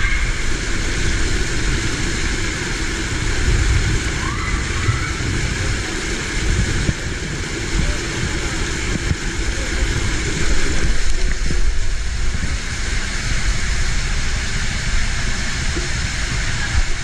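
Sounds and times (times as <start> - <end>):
water rushing down tube slide: 0.0 - 17.0.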